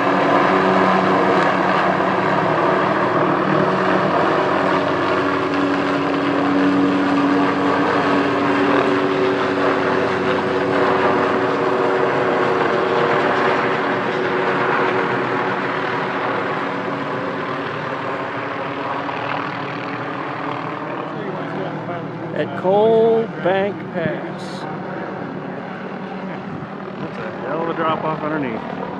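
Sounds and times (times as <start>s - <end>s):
helicopter engine and rotor: 0.0s - 28.9s.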